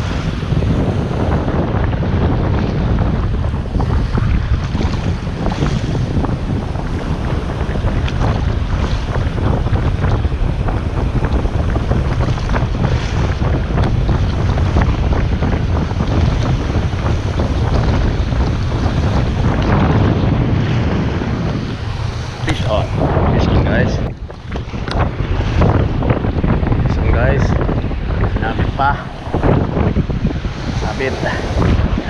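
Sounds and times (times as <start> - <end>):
waves washing on shore: 0.0 - 32.0
wind noise on microphone: 0.0 - 32.0.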